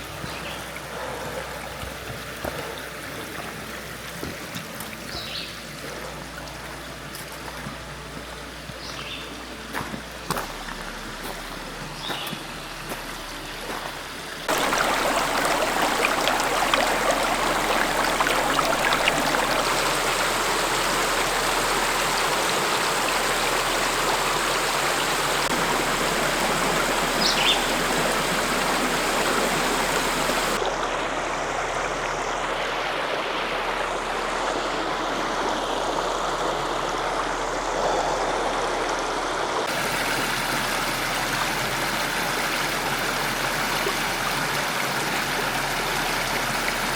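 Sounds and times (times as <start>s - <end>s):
creek water running and splashing: 0.0s - 46.9s.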